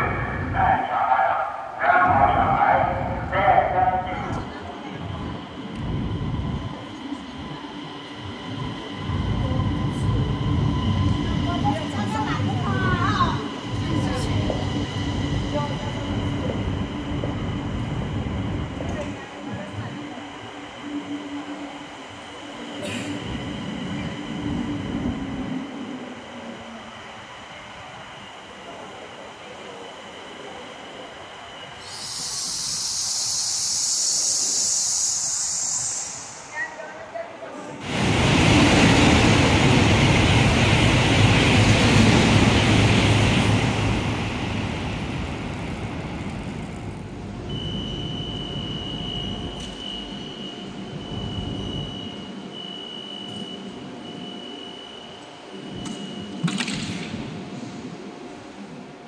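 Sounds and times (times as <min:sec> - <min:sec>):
electric train hum and rumble: 0:00.0 - 0:59.0.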